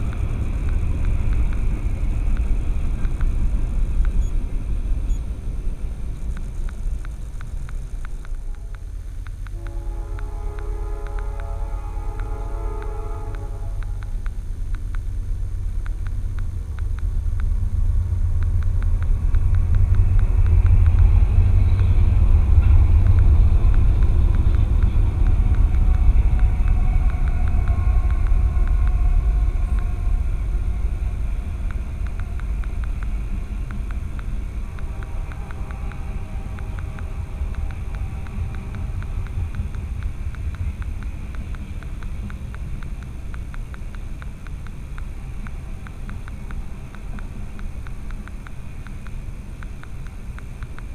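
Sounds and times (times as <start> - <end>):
faint rapid clicks: 0.0 - 50.9
vehicle rumble: 0.0 - 50.9.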